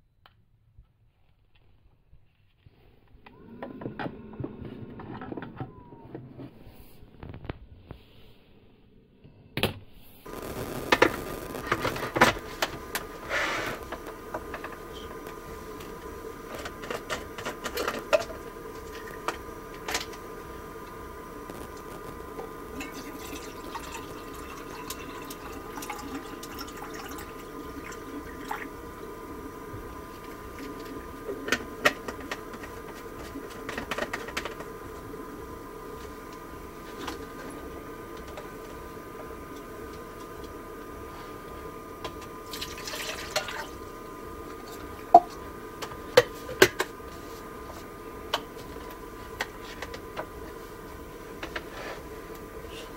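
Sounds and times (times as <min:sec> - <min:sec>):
steady hum: 0:02.8 - 0:52.9.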